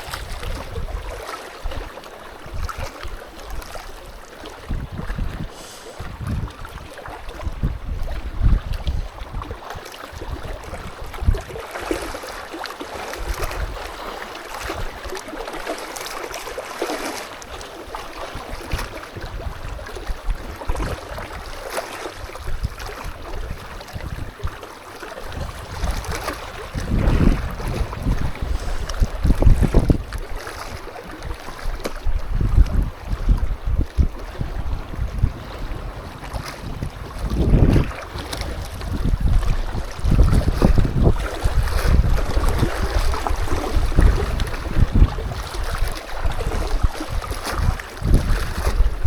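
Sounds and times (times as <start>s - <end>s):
wind buffeting microphone: 0.0s - 12.3s, 13.1s - 15.2s, 17.5s - 49.0s.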